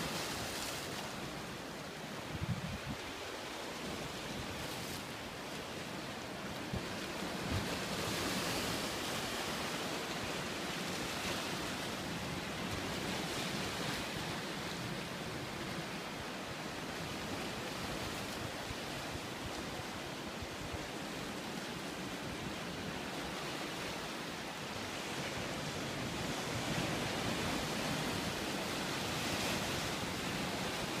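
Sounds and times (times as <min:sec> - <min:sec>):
ocean surf breaking on rocks: 0:00.0 - 0:31.0.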